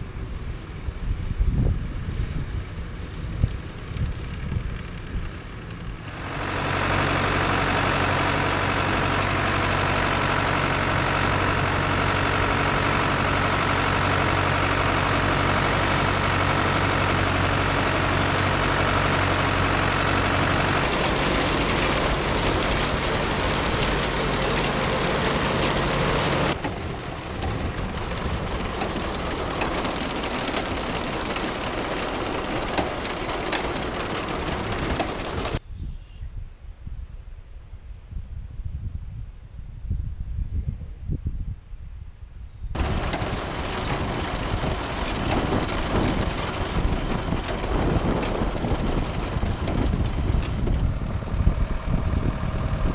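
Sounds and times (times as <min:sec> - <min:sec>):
diesel tractor running under load: 0:00.0 - 0:35.6, 0:42.7 - 0:52.9.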